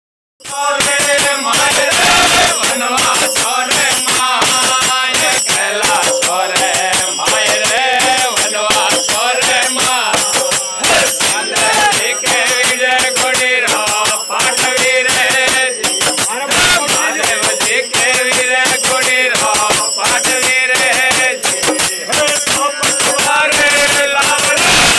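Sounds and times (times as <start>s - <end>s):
jingling hand percussion: 0.4s - 24.9s
men singing together: 0.4s - 24.9s
hand drum: 0.8s - 12.5s, 13.7s - 24.9s.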